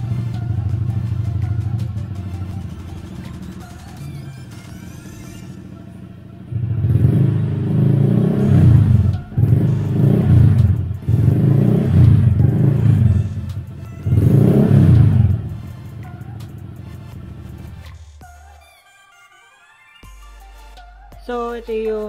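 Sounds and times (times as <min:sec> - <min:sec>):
scooter engine idling and revving: 0:00.0 - 0:18.3.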